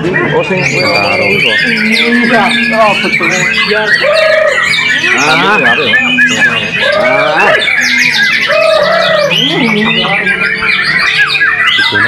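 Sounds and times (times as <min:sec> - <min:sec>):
bird singing whistles and trills: 0:00.0 - 0:12.0.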